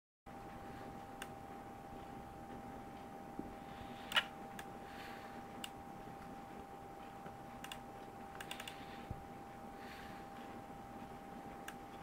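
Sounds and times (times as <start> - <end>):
faint steady whine: 0.3 - 12.0.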